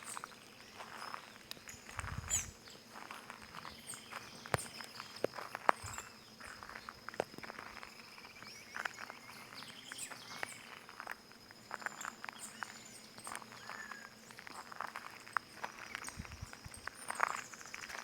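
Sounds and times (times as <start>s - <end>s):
small birds chirping: 0.0s - 18.0s
footsteps on stones: 0.1s - 18.0s.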